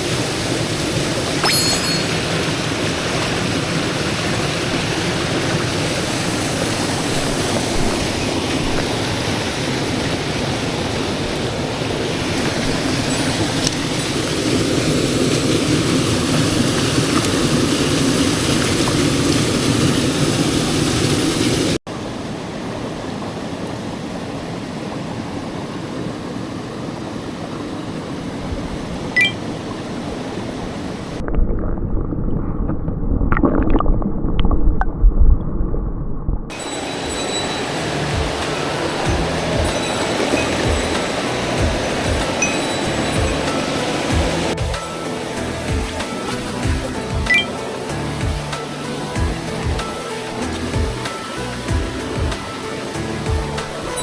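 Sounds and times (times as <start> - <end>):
stream water rushing over rocks: 0.0 - 31.2, 36.5 - 54.0.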